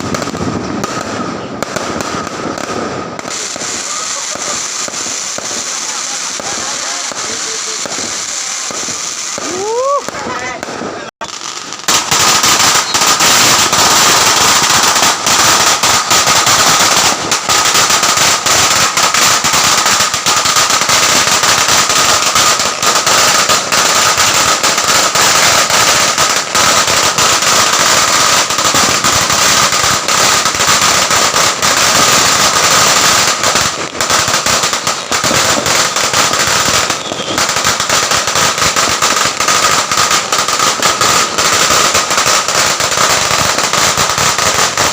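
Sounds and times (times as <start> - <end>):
firecrackers popping: 0.0 - 44.9.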